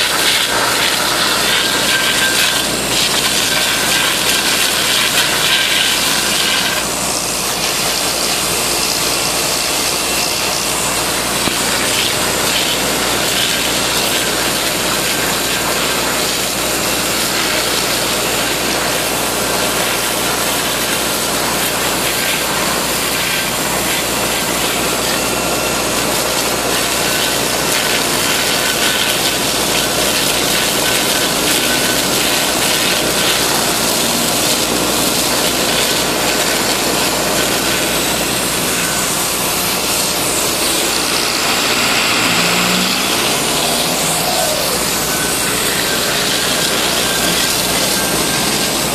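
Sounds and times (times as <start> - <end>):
engine running: 0.0 - 48.9
water jet spraying: 0.0 - 48.9.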